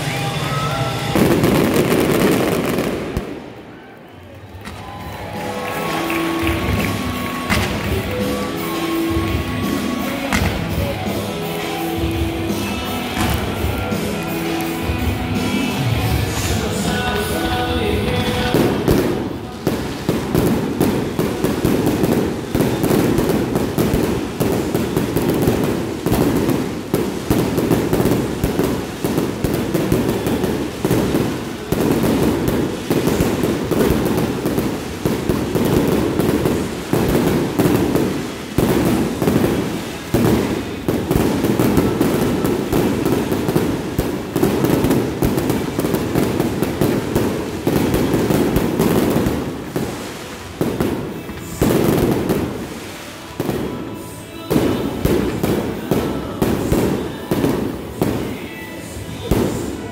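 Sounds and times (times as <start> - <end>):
fireworks barrage bangs and crackle: 0.0 - 59.9.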